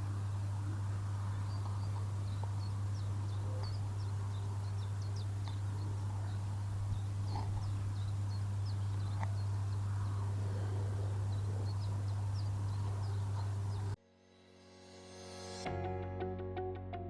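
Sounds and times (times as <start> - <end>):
low hum: 0.0 - 14.0
small birds chirping: 0.0 - 14.0.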